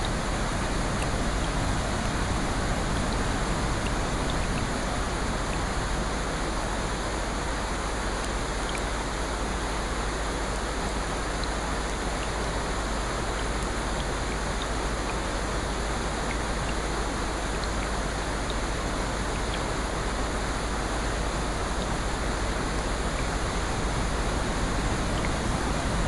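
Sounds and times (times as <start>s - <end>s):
rain drop ticks: 0.0s - 9.3s, 10.2s - 26.0s
steady rain hiss: 0.0s - 26.0s.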